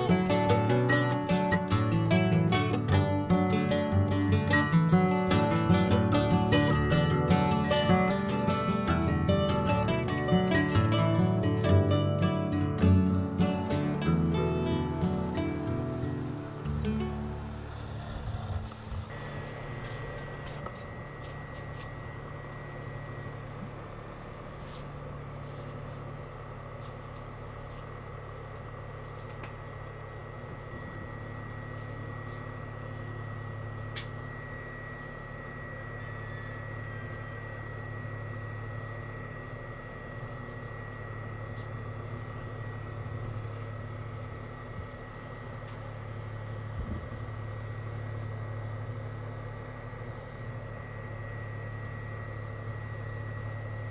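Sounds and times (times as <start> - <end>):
high-pitched whine: 0.0 - 53.9
induction cooker humming: 0.0 - 53.9.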